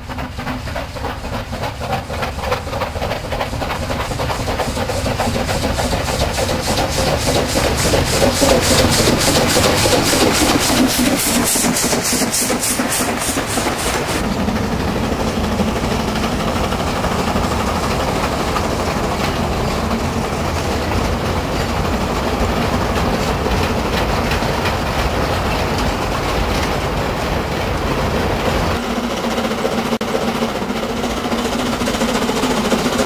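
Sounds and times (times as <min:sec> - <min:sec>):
train rumbling along the line: 0:00.0 - 0:33.0
wagon wheels clicking: 0:00.0 - 0:33.0.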